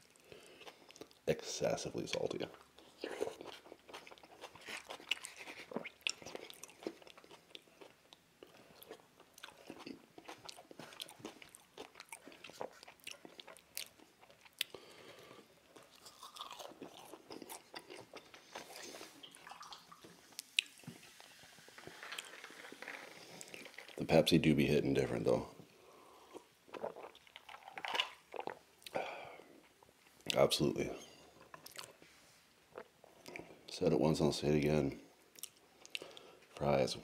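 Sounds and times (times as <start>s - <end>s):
person chewing food: 0.0s - 1.2s, 2.5s - 24.0s, 25.9s - 30.4s, 31.1s - 32.0s, 32.7s - 33.7s, 35.3s - 36.5s.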